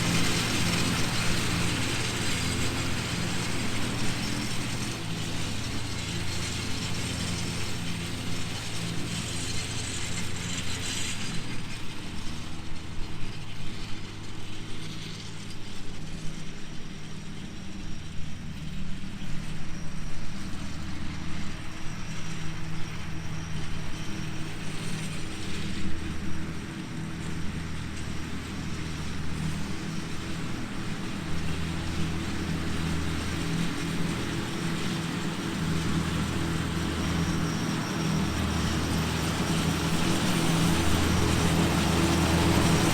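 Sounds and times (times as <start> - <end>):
tractor engine under load: 0.0 - 17.7, 20.4 - 42.9.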